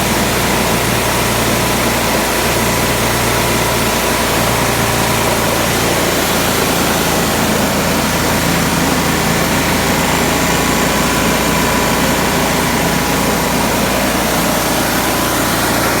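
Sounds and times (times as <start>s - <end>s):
petrol engine driving huller: 0.0s - 16.0s.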